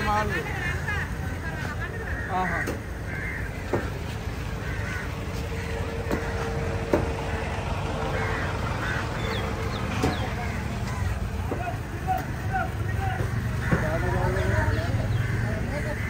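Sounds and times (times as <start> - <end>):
crows cawing: 1.6 - 16.0.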